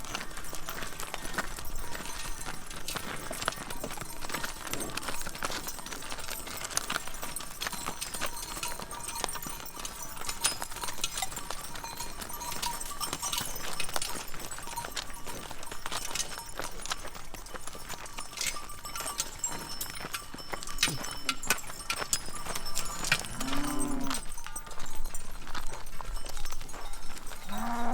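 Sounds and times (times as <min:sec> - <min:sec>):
cow bells clanging: 0:00.0 - 0:27.9.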